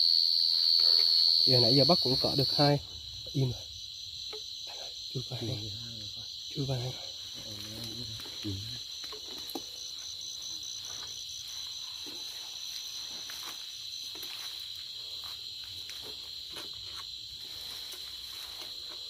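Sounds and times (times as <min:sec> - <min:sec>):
crickets trilling: 0:00.0 - 0:19.0
higher insect call pulsing: 0:00.0 - 0:19.0.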